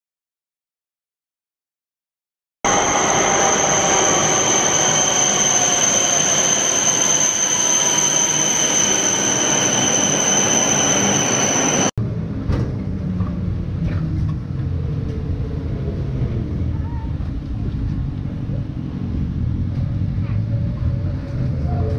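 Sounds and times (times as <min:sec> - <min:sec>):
streetcar rumble: 0:02.7 - 0:21.9
train rumbling with high squeal: 0:02.7 - 0:21.9.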